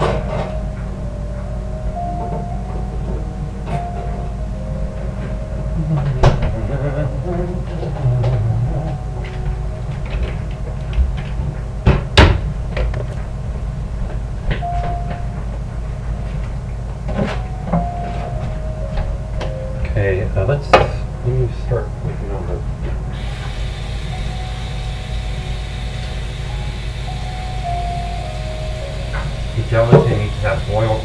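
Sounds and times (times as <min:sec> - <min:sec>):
faint piano music: 0:00.0 - 0:31.0
steady low hum: 0:00.0 - 0:31.0.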